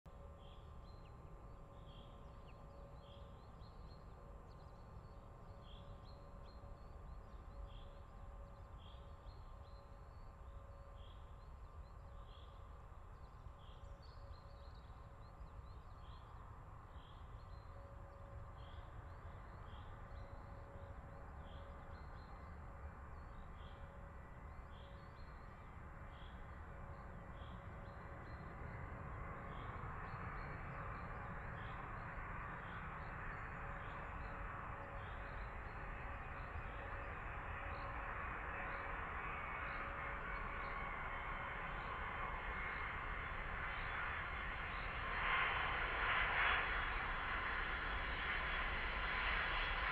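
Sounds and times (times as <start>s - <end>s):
distant jet aircraft rumble: 0.1s - 49.9s
low wind rumble: 0.1s - 49.9s.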